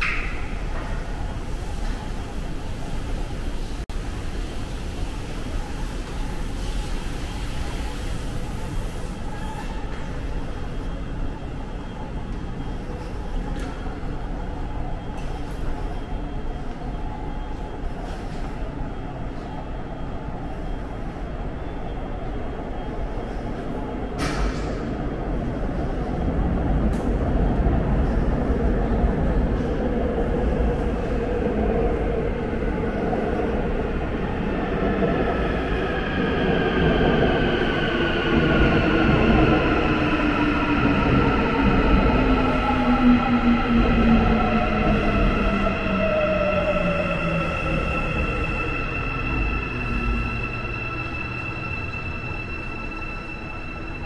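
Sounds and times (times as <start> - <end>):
subway train running: 0.0 - 54.0.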